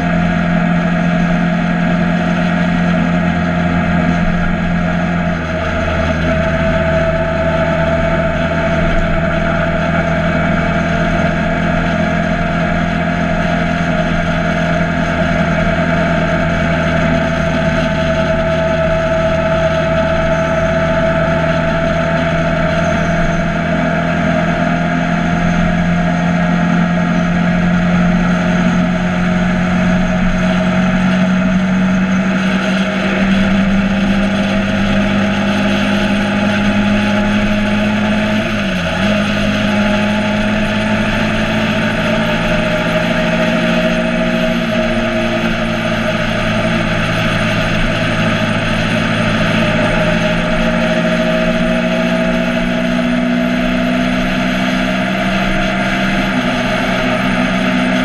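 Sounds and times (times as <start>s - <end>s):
motorcycle engine cruising: 0.0s - 58.0s
wind noise: 0.0s - 58.0s.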